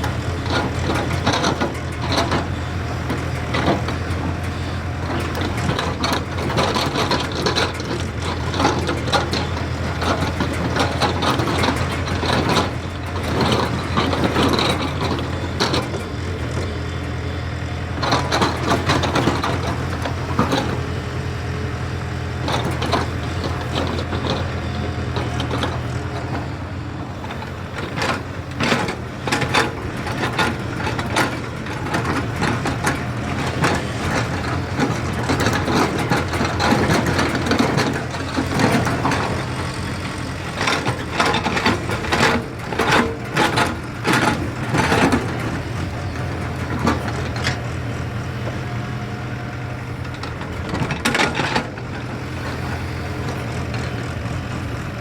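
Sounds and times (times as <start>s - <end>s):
machine clanking and rattling: 0.0s - 54.8s
excavator diesel engine running: 0.0s - 55.0s.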